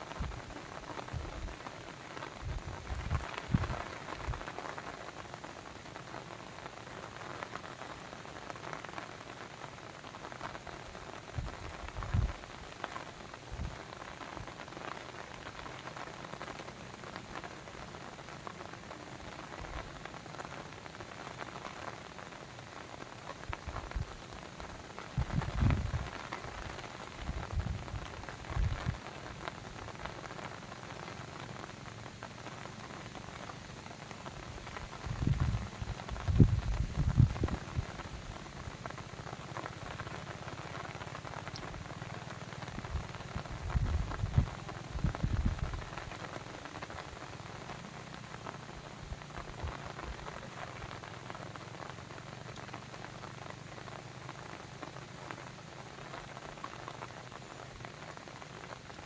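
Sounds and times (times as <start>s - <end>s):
rain patter: 0.0s - 59.0s
heavy raindrops thudding: 10.3s - 59.0s.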